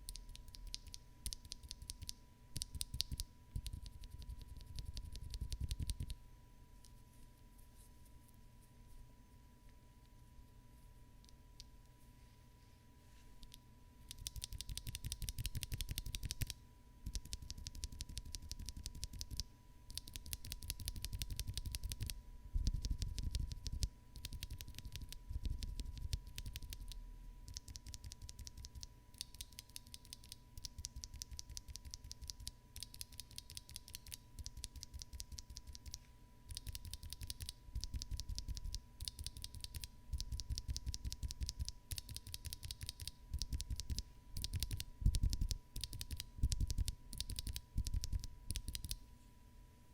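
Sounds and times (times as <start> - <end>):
mechanical keyboard typing: 0.0 - 6.2, 14.1 - 49.0.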